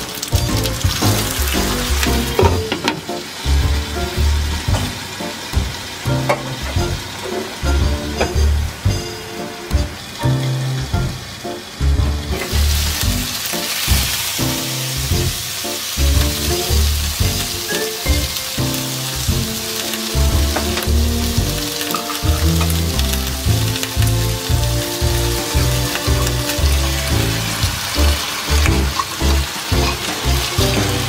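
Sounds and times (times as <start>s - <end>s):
background music with beat: 0.0s - 31.0s
dumplings sizzling in a pan: 0.0s - 31.0s.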